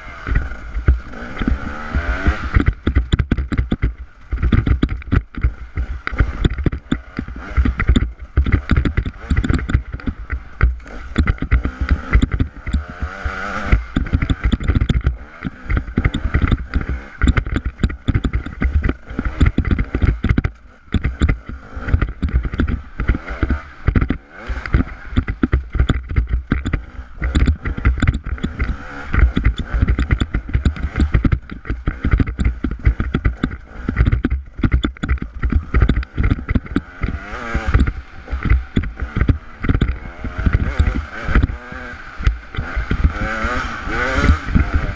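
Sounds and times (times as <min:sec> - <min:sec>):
motorcycle engine revving: 0:00.0 - 0:44.9
rattling and knocks: 0:00.0 - 0:44.9
wind rumble on microphone: 0:00.0 - 0:44.9.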